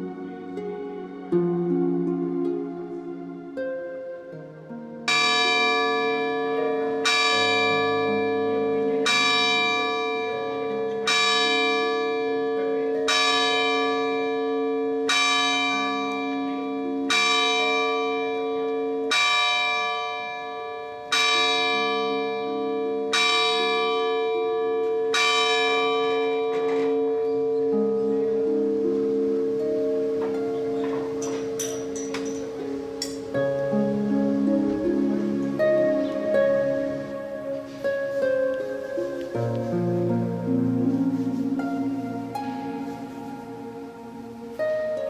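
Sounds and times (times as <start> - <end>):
soft background music: 0.0 - 45.0
church bell ringing: 5.1 - 45.0.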